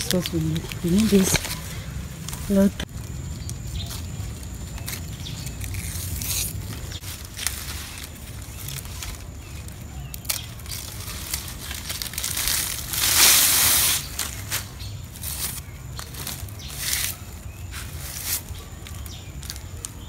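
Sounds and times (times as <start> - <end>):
crackles and clicks: 0.0 - 20.0
dry palm leaves rustling and tearing: 0.0 - 20.0.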